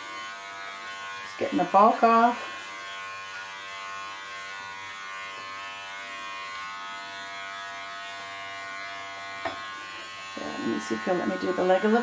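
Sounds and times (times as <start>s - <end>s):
electric pet clippers humming: 0.0s - 12.0s.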